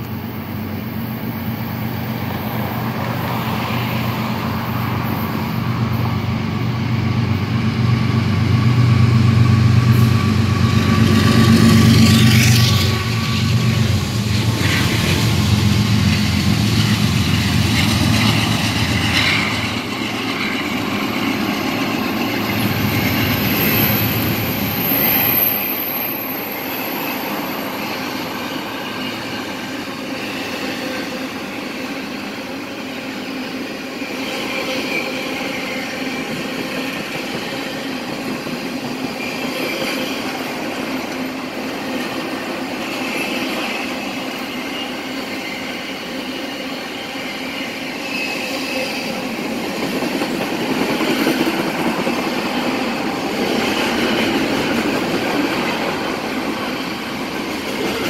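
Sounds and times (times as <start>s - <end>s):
diesel locomotive engine hum: 0.0s - 58.0s
train cars rumbling on rails: 0.0s - 58.0s.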